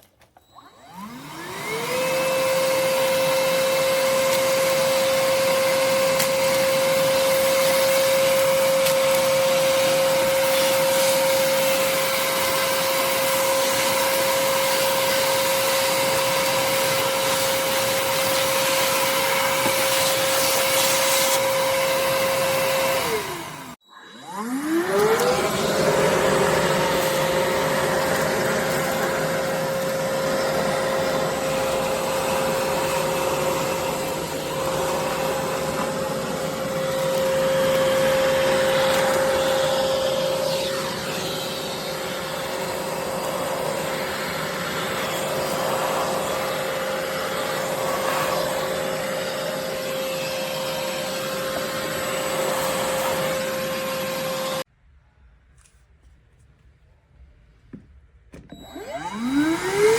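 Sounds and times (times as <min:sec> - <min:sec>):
shop vacuum running: 0:00.5 - 0:54.7, 0:58.3 - 0:59.9.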